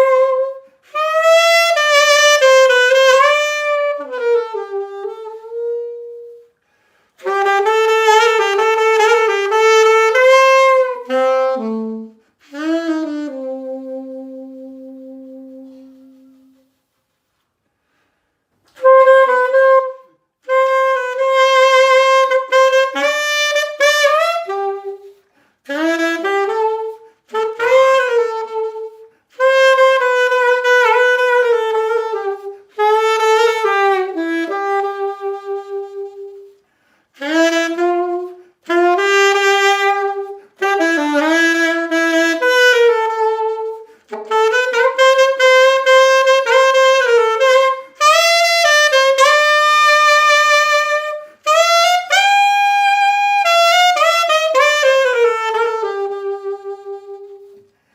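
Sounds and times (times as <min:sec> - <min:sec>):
solo saxophone melody: 0:00.0 - 0:57.9.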